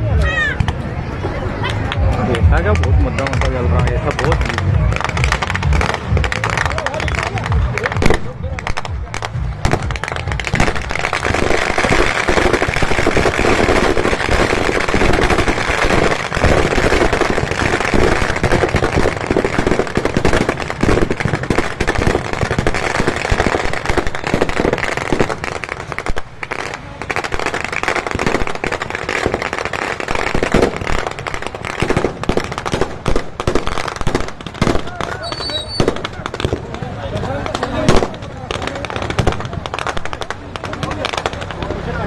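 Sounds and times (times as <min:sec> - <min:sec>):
firecrackers crackling: 0:00.0 - 0:42.0.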